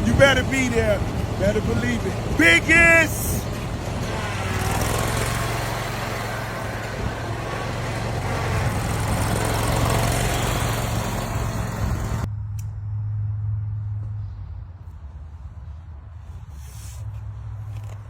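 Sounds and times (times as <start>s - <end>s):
outdoor noise: 0.0s - 18.0s
vehicle engine humming: 0.0s - 18.0s.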